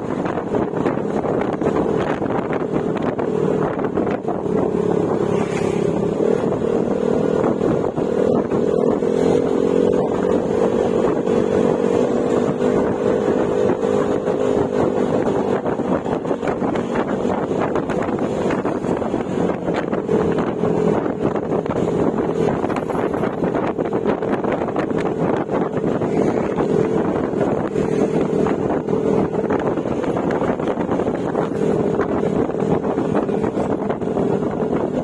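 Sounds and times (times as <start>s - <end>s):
scooter engine running: 0.0s - 35.0s
wind rushing over microphone: 0.0s - 35.0s.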